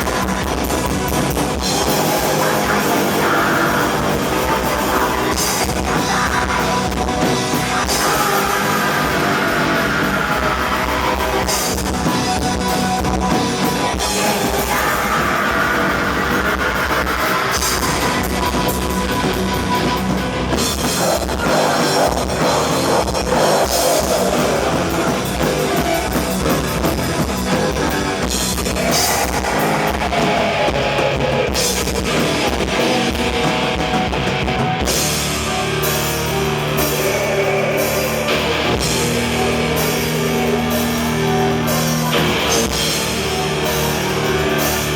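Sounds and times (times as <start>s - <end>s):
black metal band playing live: 0.0s - 44.9s
loud dense drumming: 0.0s - 44.9s.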